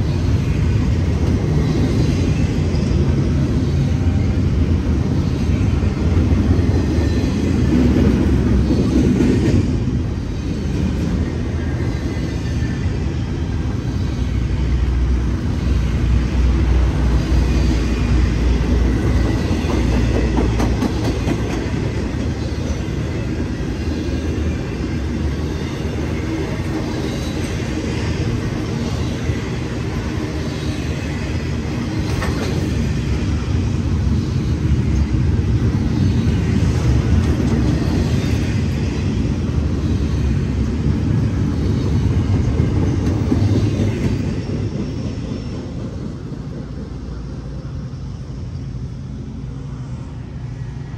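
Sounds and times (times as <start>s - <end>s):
freight train wheels rumbling on rail: 0.0s - 50.9s.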